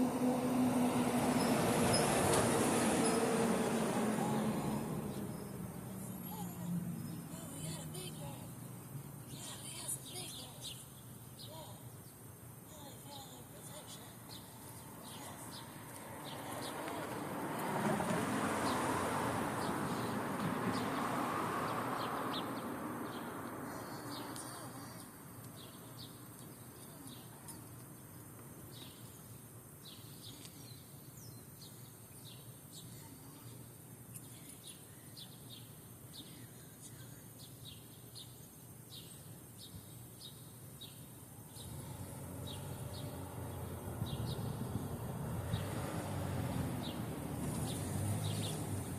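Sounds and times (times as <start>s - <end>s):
small birds chirping: 4.0s - 17.6s, 18.5s - 48.9s.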